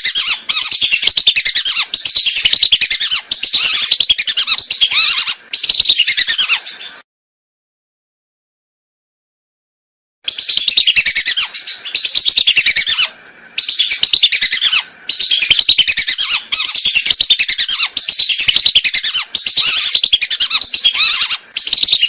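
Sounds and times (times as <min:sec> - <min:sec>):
ducks whistling calls: 0:00.0 - 0:06.8, 0:10.3 - 0:22.0.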